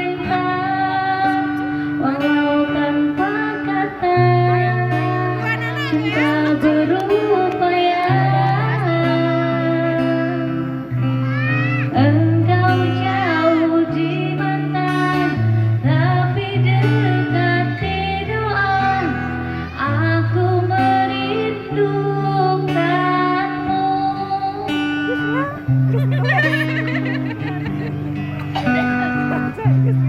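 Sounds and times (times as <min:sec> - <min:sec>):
person singing: 0:00.0 - 0:10.2, 0:12.0 - 0:27.5
guitar: 0:00.0 - 0:30.0.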